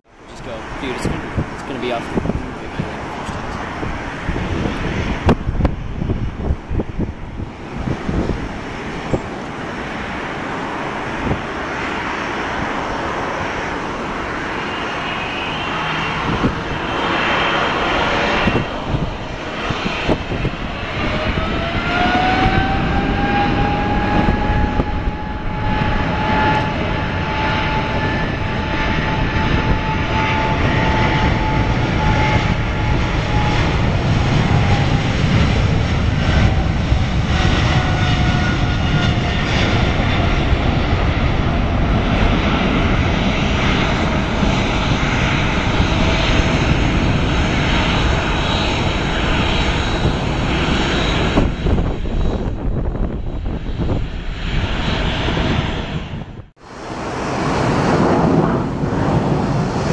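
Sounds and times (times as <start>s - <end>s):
jet engine rumble: 0.0s - 59.9s
jet engine whine: 0.0s - 59.9s.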